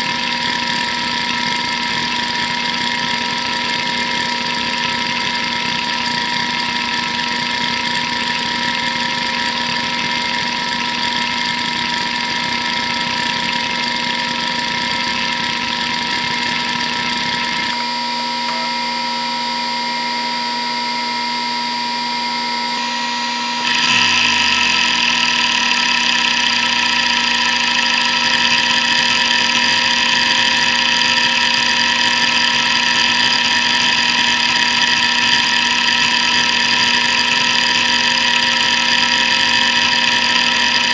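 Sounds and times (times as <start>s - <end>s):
hard drive spinning whine: 0.0s - 40.9s.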